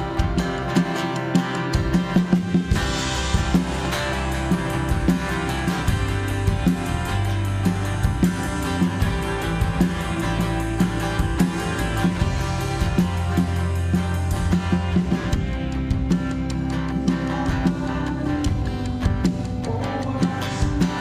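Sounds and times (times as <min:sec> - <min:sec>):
band playing a steady beat: 0:00.0 - 0:21.0.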